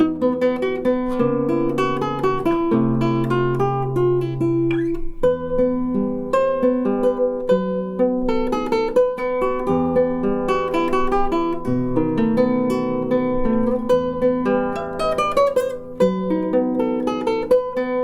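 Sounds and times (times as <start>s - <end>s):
acoustic guitar piece: 0.0s - 18.0s.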